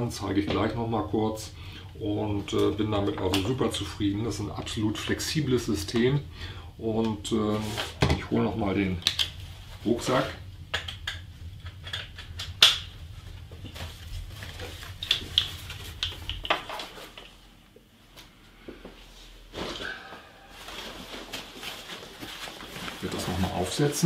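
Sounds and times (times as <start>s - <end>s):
low hum: 0.0s - 23.7s.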